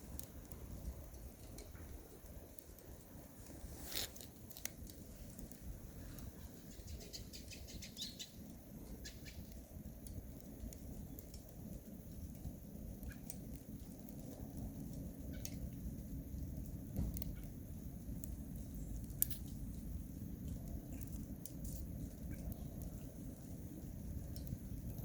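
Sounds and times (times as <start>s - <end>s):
low fire rumble: 0.0s - 25.0s
wood fire crackling and popping: 0.0s - 25.0s.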